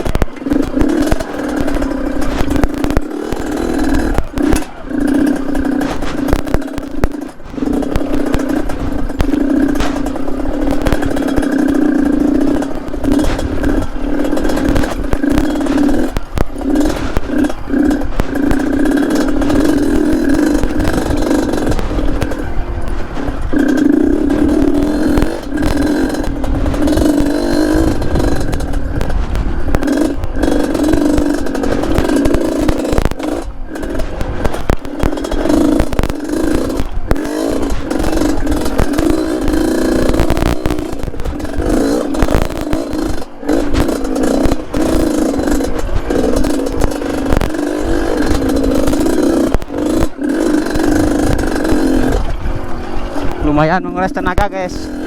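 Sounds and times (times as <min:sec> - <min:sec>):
bike frame clattering: 0:00.0 - 0:53.6
stones knocking and scraping: 0:00.0 - 0:55.0
two-stroke motorbike engine: 0:00.0 - 0:55.0.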